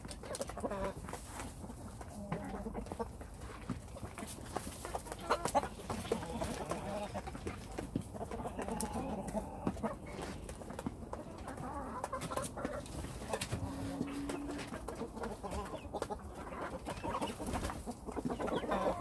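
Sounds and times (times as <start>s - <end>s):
beaks pecking at feed: 0.0s - 19.0s
hens clucking: 0.0s - 19.0s.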